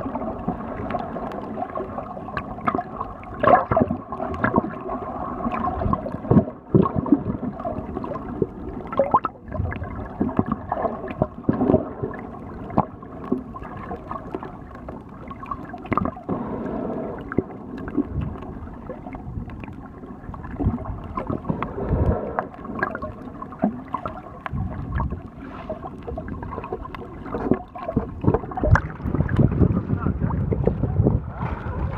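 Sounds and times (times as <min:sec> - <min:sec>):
muffled underwater sloshing: 0:00.0 - 0:31.9.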